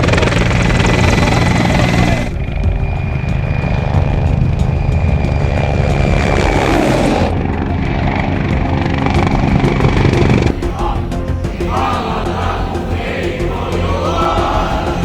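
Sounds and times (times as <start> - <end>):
helicopter rotor drone: 0.0 - 15.0
high turbine whine: 0.0 - 15.0.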